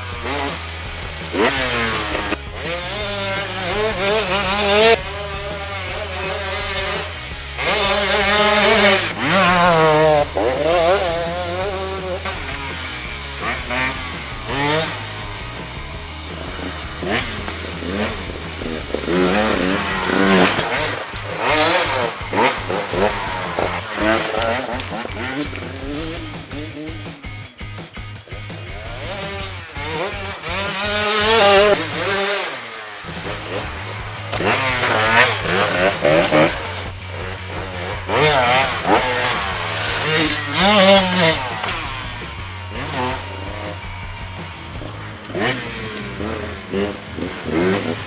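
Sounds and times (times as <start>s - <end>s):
two-stroke motorcycle engine revving: 0.0s - 48.0s.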